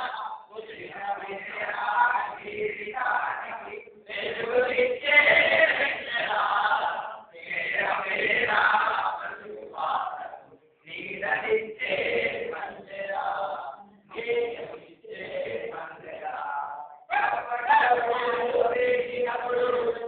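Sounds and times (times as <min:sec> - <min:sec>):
group of voices singing in unison: 0:00.0 - 0:20.0.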